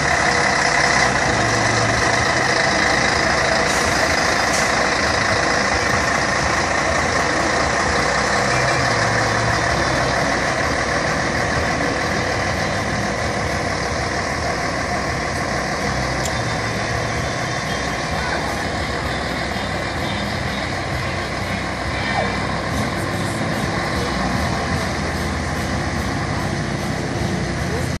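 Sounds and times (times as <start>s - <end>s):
coach diesel engine driving away: 0.0s - 28.0s.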